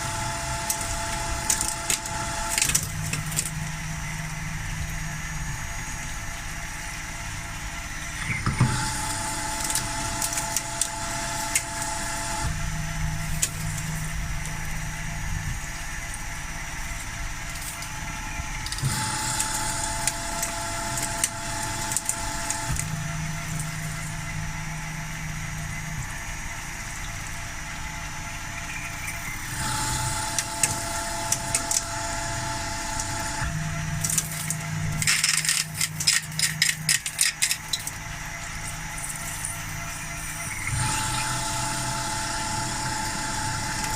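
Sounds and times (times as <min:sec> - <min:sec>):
milling spindle steady tones: 0:00.0 - 0:43.9.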